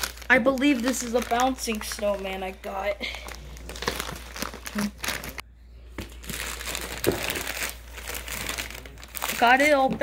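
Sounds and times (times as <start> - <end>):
plastic mailer crinkling and tearing: 0.0 - 5.4, 6.1 - 10.0.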